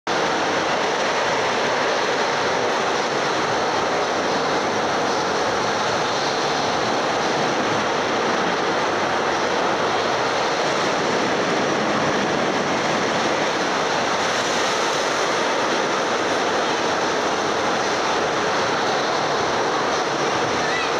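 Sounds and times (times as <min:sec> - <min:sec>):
indoor amusement park din: 0:00.1 - 0:20.9.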